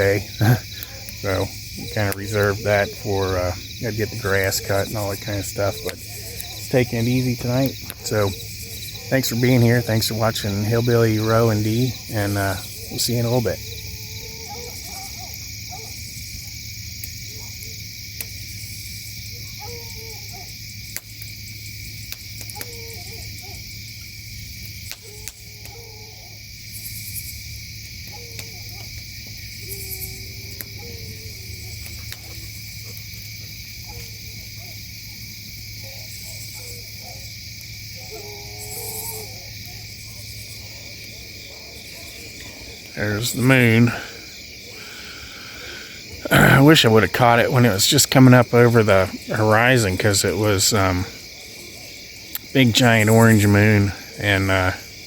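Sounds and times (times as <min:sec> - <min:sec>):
crickets trilling: 0:00.0 - 0:55.0
loud rasping insect pulses: 0:00.0 - 0:55.0.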